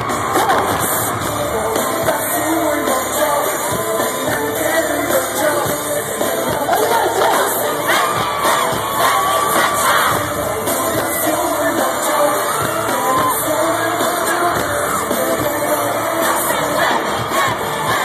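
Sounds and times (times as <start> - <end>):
fans screaming and cheering: 0.0 - 18.0
live pop concert music: 0.0 - 18.0.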